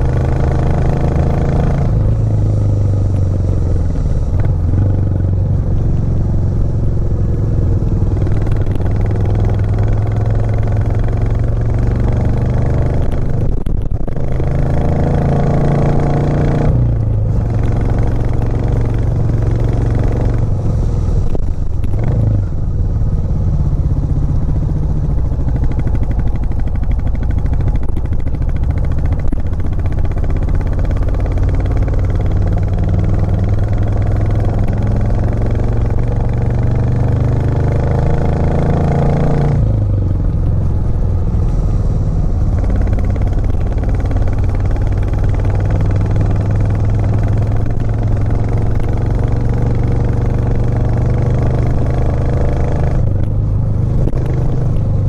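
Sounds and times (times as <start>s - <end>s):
motorcycle engine climbing uphill: 0.0s - 55.0s.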